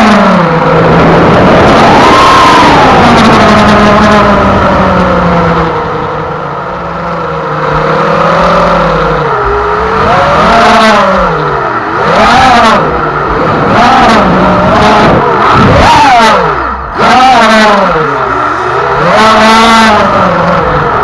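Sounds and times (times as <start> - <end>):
model boat motor whining: 0.0 - 21.0.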